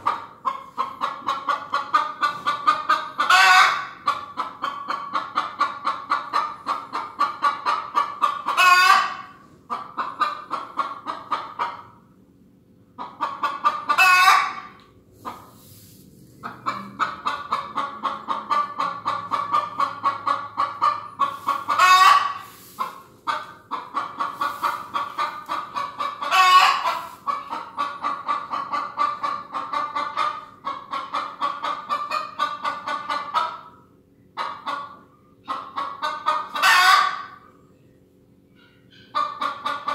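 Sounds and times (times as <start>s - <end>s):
chicken calling: 0.0s - 11.8s, 13.0s - 33.6s, 34.4s - 37.4s
chicken clucking: 0.0s - 12.2s, 12.9s - 37.7s, 38.5s - 39.9s.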